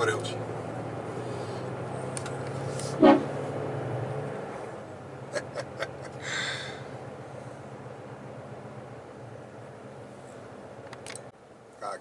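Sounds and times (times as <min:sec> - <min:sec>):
truck engine running: 0:00.0 - 0:11.2.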